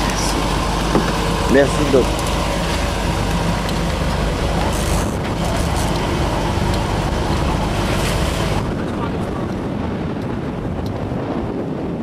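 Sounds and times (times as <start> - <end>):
motorboat engine humming: 0.0 - 12.0
wind and water hiss: 0.0 - 12.0.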